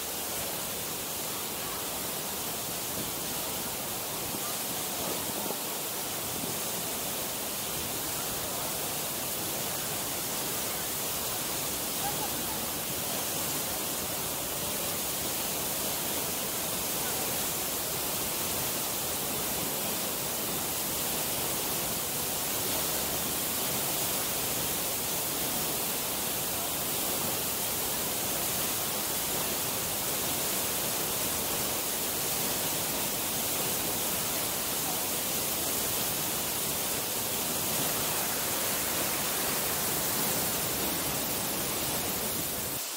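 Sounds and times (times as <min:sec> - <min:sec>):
waterfall running: 0:00.0 - 0:42.9.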